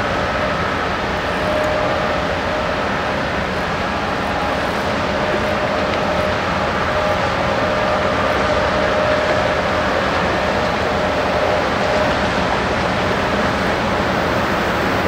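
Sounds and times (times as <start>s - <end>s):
held hum: 0.0s - 15.0s
ship engine drone: 0.0s - 15.0s.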